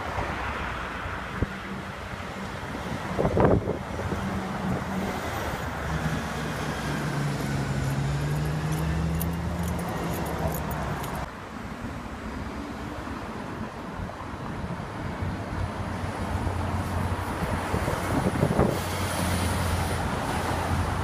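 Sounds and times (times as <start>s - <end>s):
bus engine hum: 0.0s - 21.0s
road traffic: 0.0s - 21.0s.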